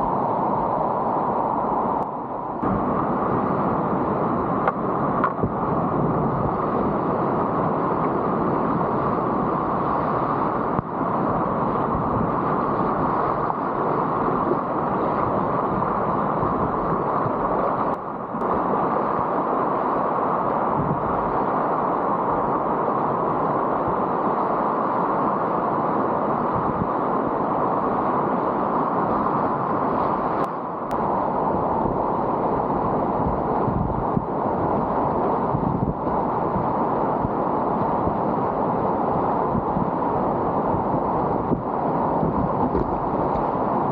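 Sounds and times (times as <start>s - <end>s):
whitewater rushing: 0.0s - 43.9s.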